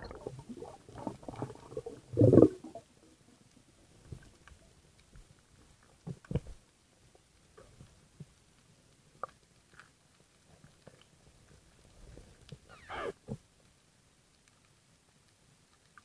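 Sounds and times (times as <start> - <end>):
faint underwater clicks and knocks: 0.0 - 16.0.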